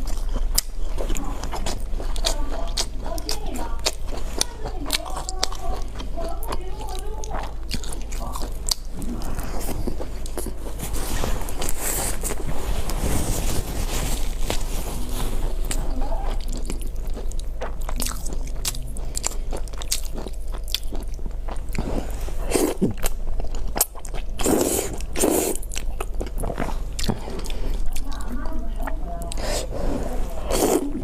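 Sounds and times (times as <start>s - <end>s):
biting and chewing: 0.0s - 29.7s
steady low hum: 0.0s - 31.0s.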